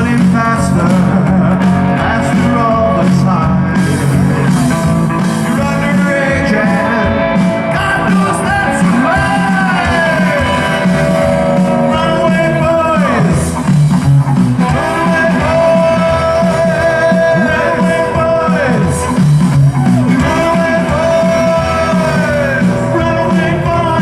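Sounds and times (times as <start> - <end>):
drums: 0.0 - 24.0
electric guitar with bent notes: 0.0 - 24.0
upright bass: 0.0 - 24.0.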